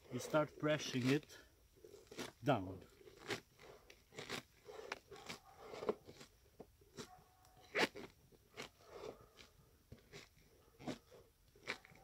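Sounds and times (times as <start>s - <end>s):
cabbage crunching pressed by hand: 1.9s - 12.0s.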